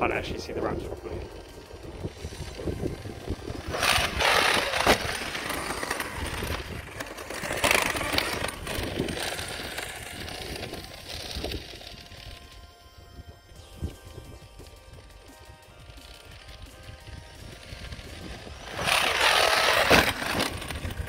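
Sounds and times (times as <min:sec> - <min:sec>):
gears grinding and rattling: 0:00.9 - 0:12.7, 0:14.9 - 0:21.0
rc truck motor whining: 0:00.9 - 0:21.0.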